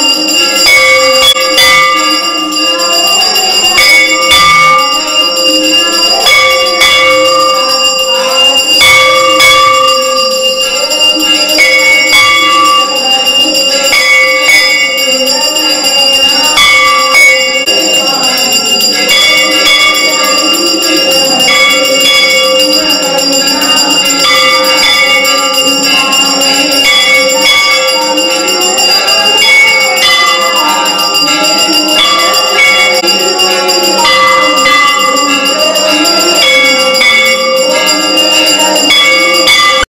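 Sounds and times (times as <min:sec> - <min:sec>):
temple bells ringing: 0:00.0 - 0:39.9.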